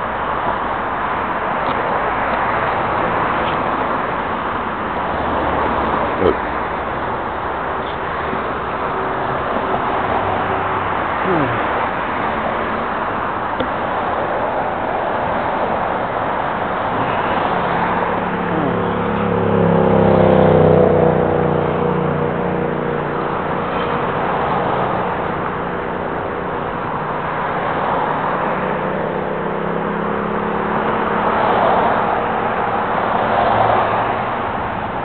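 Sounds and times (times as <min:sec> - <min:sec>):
vehicle engine hum: 0:00.0 - 0:35.0.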